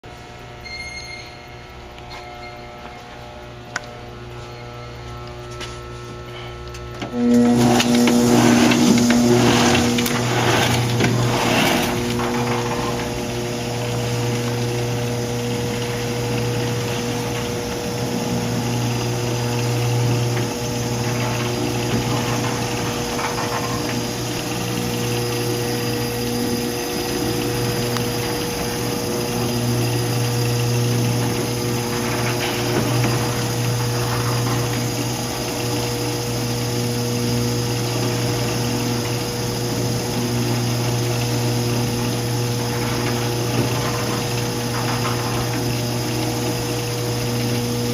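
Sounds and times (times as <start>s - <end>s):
intermittent machine tone: 0.0s - 47.9s
motors humming and whining: 0.0s - 47.9s.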